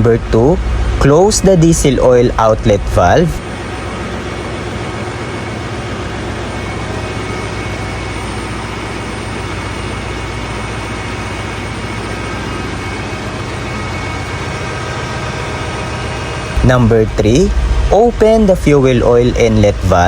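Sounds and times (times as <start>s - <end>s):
diesel generators humming: 0.0s - 20.0s.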